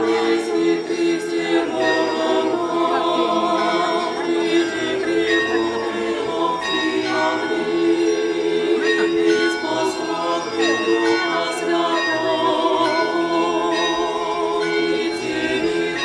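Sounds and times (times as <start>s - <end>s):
voices singing a church chant: 0.0s - 16.0s.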